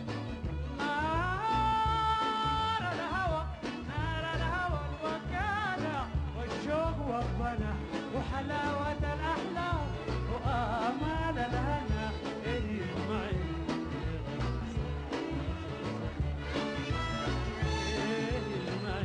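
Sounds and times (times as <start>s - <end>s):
band accompaniment with bass beat: 0.0s - 19.0s
man singing: 0.6s - 15.9s, 16.8s - 19.0s.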